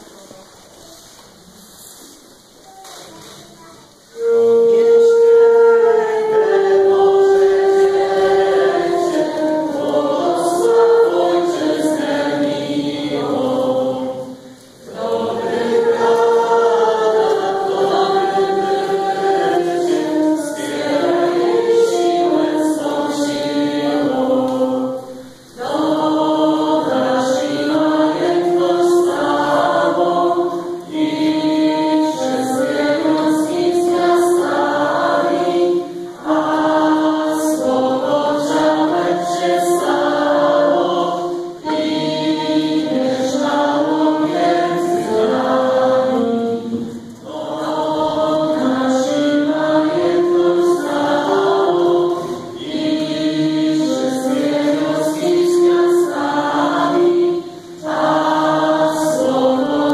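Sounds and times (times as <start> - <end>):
group singing a carol: 4.1 - 59.9.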